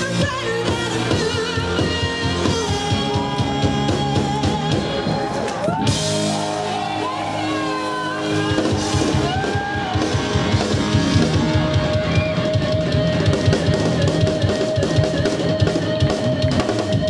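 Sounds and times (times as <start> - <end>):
rapid drum beats: 0.0 - 17.0
rock band playing: 0.0 - 17.0.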